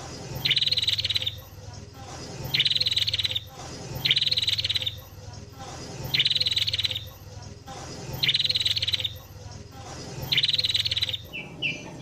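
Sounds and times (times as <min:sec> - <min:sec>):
bird singing chattering trills: 0:00.0 - 0:12.0.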